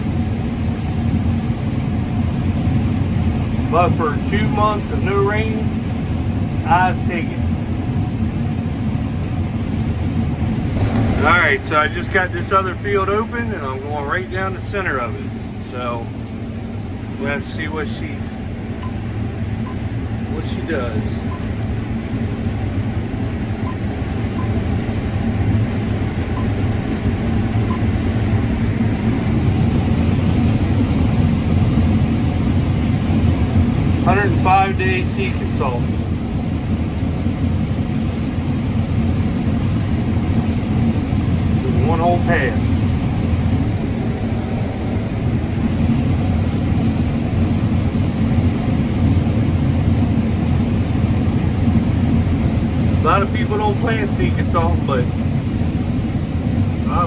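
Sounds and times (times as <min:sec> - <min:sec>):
combine harvester engine: 0:00.0 - 0:57.0.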